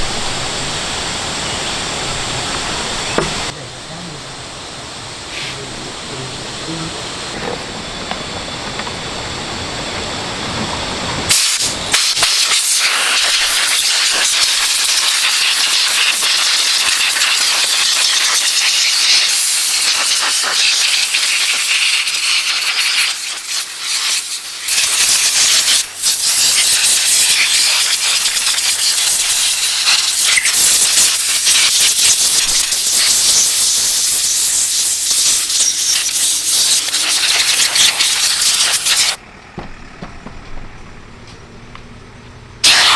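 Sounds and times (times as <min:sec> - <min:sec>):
compressed air hissing: 0:00.0 - 0:39.2, 0:42.6 - 0:42.9.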